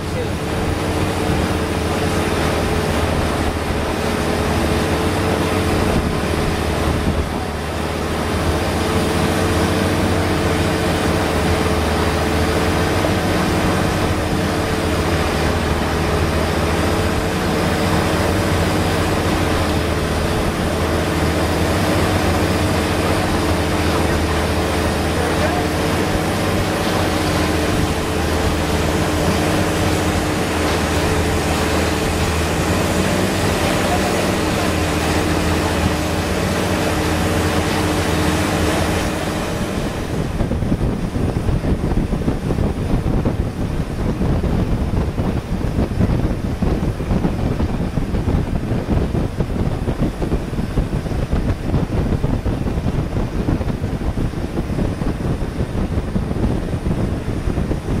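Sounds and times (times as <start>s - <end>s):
boat engine droning: 0.0s - 58.0s
wind buffeting microphone: 0.0s - 58.0s.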